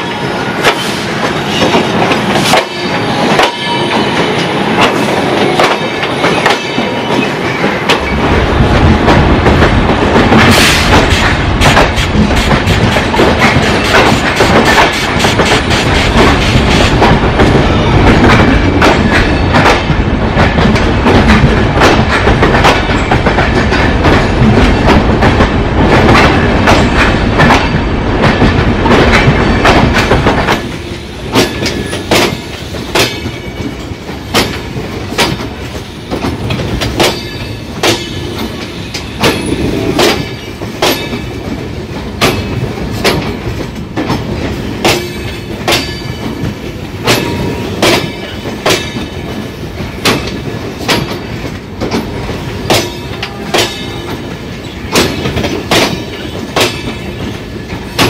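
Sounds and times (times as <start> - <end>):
train wheels clattering over rail joints: 0.2 - 58.0.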